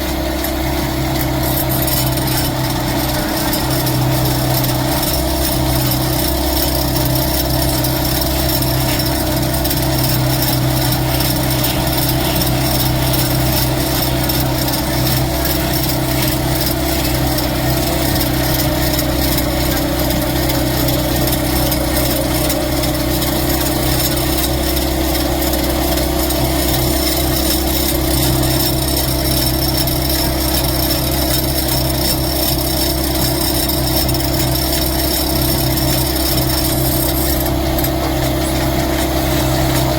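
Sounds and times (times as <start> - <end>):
woodworking machine motor hum: 0.0 - 39.9.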